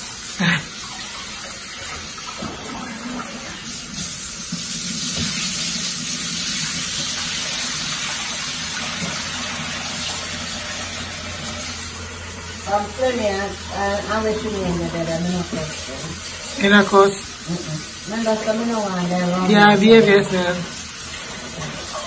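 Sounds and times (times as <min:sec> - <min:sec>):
dishes being washed: 0:00.0 - 0:22.0
faucet running into sink: 0:00.0 - 0:22.0.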